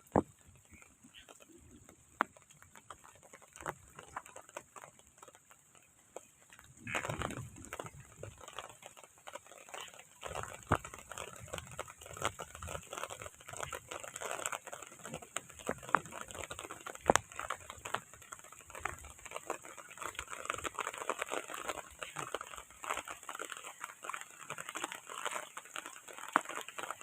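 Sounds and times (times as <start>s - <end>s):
heavy rain falling: 0.0s - 27.0s
sharp raindrop taps: 0.0s - 27.0s.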